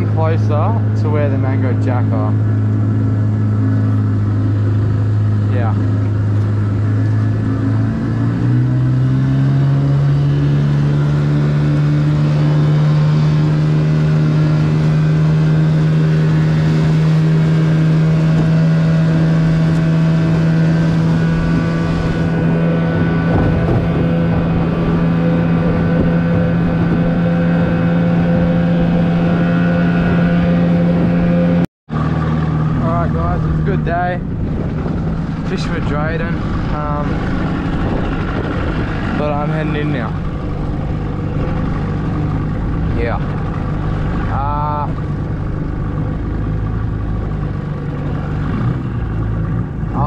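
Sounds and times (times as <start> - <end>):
outboard motor running: 0.0 - 50.0.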